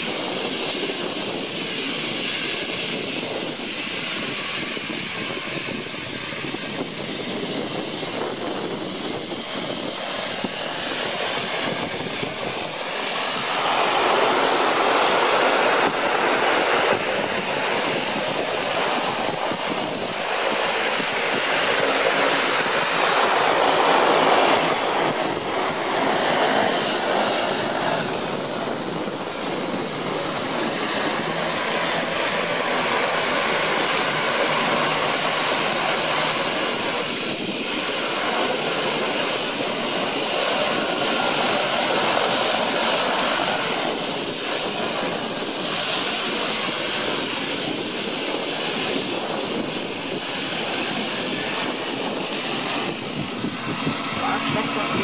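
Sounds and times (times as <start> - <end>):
turboprop engines idling: 0.0 - 55.0.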